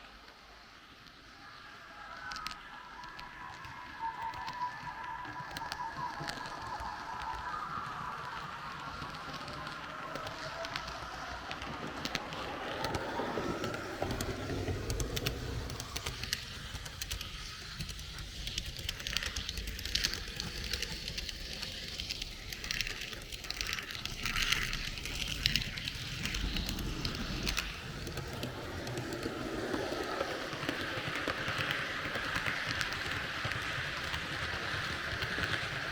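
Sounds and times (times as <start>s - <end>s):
model train rolling on track: 0.0s - 35.9s.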